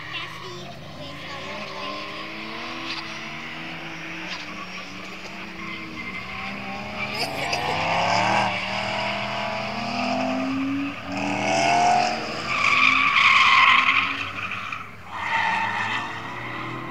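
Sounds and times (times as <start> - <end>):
car engine revving: 0.0 - 16.9
loud tyre squeal: 1.6 - 16.9.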